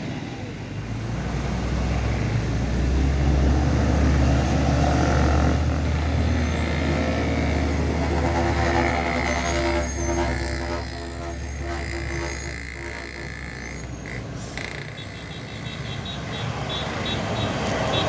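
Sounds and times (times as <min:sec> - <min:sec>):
diesel truck engine labouring: 0:00.0 - 0:18.0.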